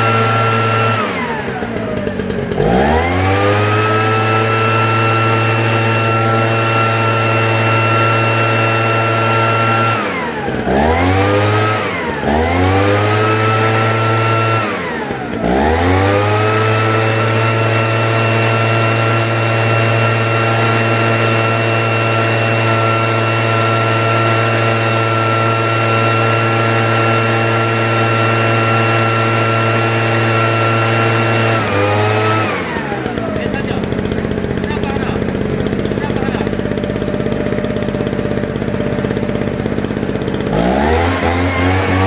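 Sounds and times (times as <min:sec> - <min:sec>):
small petrol engine revving: 0:00.0 - 0:42.0.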